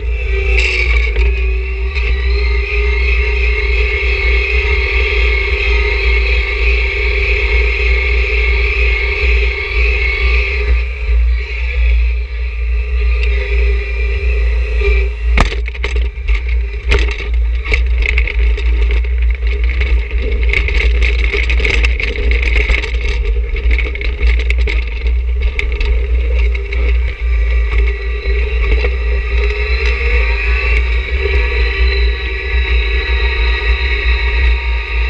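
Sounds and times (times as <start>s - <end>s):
high whine: 0.0s - 35.0s
tractor engine running: 0.0s - 35.0s.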